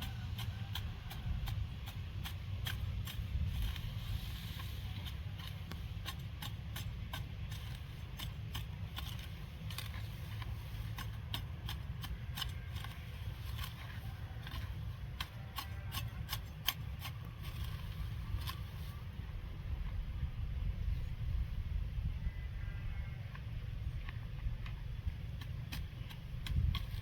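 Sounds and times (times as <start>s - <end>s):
shears snipping grass: 0.0s - 19.4s, 23.3s - 27.0s
low steady rumble: 0.0s - 27.0s.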